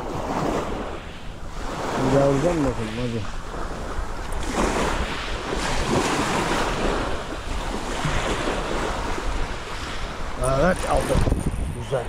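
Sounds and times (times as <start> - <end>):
waves washing over pebbles: 0.0 - 12.0
wind buffeting microphone: 0.0 - 12.0.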